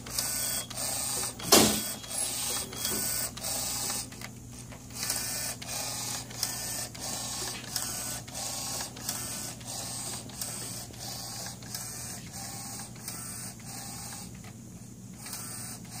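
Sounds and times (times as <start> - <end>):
printer carriage whirring: 0.0 - 16.0
steady motor hum: 0.0 - 16.0.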